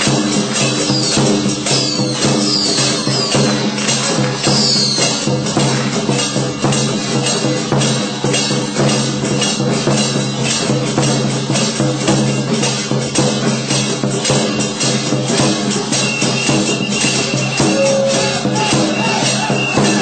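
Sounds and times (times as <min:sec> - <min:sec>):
drums beating steady rhythm: 0:00.0 - 0:20.0.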